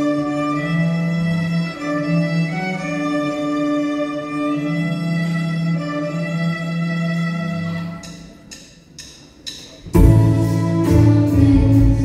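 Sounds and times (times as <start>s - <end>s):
violins and cello playing: 0.0s - 8.4s, 10.0s - 12.0s.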